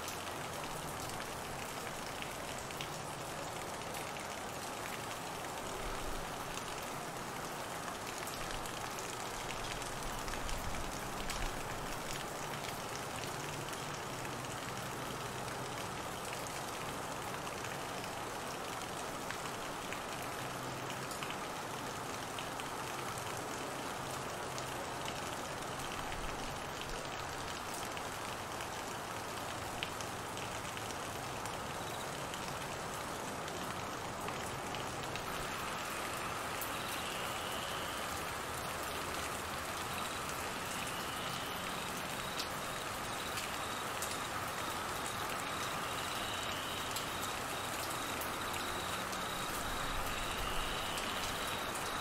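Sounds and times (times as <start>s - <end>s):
rain on trees and grass: 0.0s - 52.0s.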